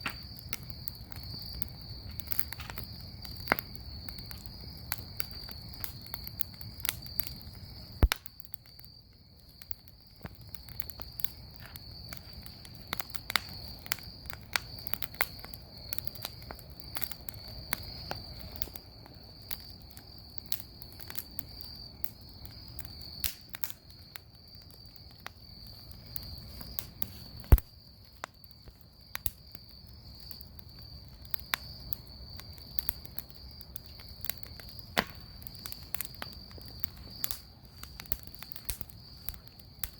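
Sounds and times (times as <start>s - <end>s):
bonfire crackling and popping: 0.0s - 39.9s
crickets chirring: 0.0s - 39.9s
loud fire snaps: 0.0s - 39.9s.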